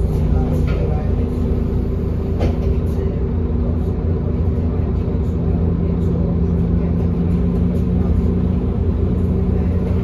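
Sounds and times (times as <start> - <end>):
bus diesel engine idling: 0.0 - 10.0.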